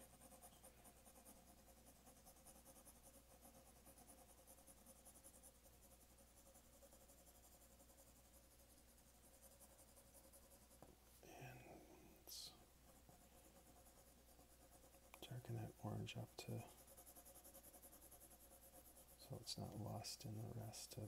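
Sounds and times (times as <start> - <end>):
pencil shading on paper: 0.0 - 10.9, 11.5 - 21.0.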